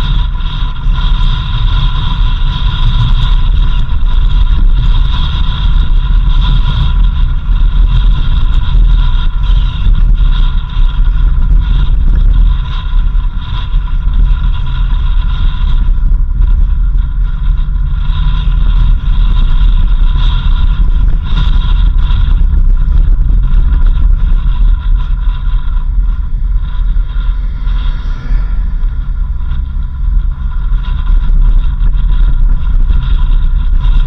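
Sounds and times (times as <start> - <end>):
continuous high whine: 0.0 - 34.0
engine and tyre rumble: 0.0 - 34.0.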